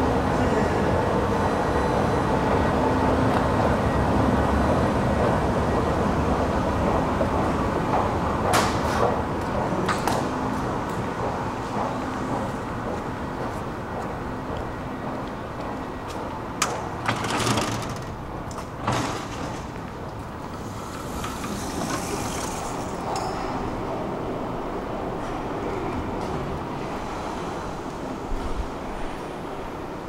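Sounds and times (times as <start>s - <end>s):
station hall rumble: 0.0s - 30.0s.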